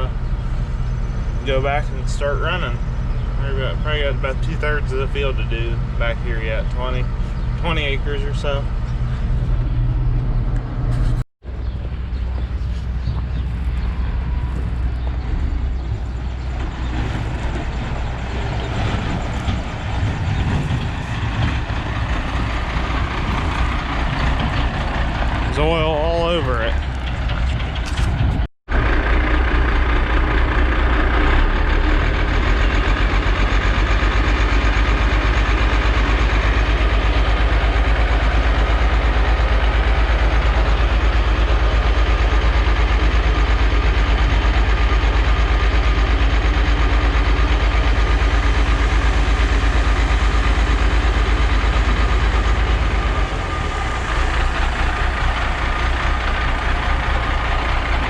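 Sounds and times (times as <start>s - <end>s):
large diesel engine running: 0.0s - 58.0s.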